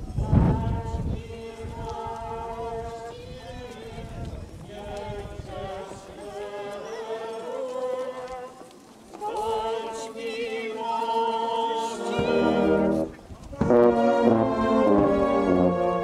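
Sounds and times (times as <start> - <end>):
brass band playing hymn: 0.0 - 8.6, 9.2 - 16.0.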